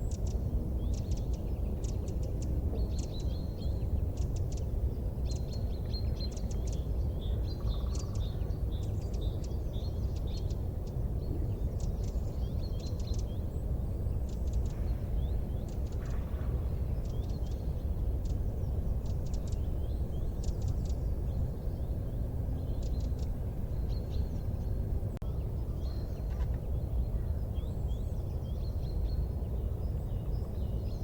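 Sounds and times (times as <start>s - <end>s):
small birds chirping: 0.0s - 31.0s
steady low rumble: 0.0s - 31.0s.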